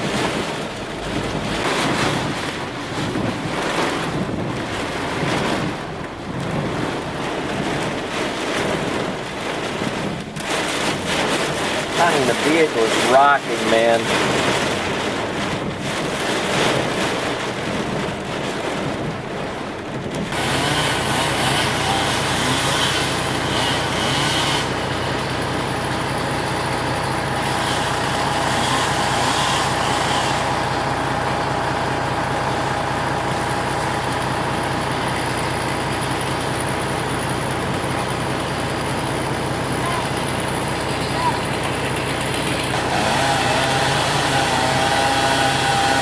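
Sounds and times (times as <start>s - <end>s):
wind buffeting a vehicle: 0.0s - 44.8s
vehicle running hum: 0.0s - 46.0s.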